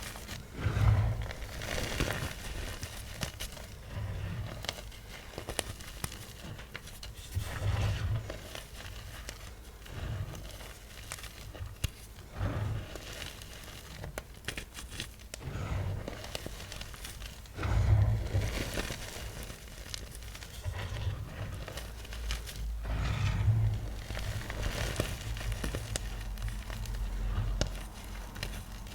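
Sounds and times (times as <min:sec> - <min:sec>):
chalk crunching and crumbling: 0:00.0 - 0:28.9.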